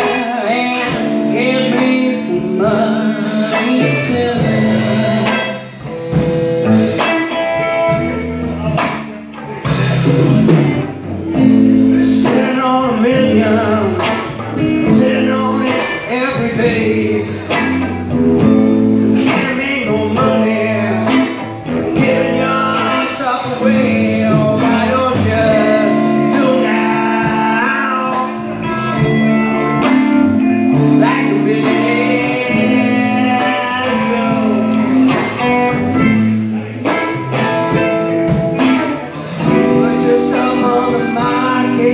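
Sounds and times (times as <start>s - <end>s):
bass guitar: 0.0s - 41.9s
drums: 0.0s - 41.9s
electric guitars: 0.0s - 41.9s
person singing: 0.0s - 41.9s.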